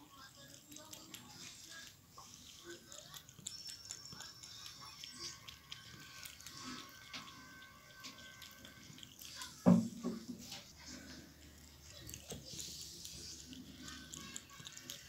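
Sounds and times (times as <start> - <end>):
cat lapping water: 0.1 - 15.0.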